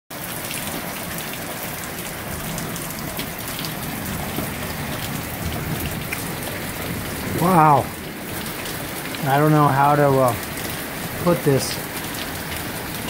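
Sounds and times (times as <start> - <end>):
rain falling: 0.1 - 13.0
raindrops pattering on surfaces: 0.1 - 13.0.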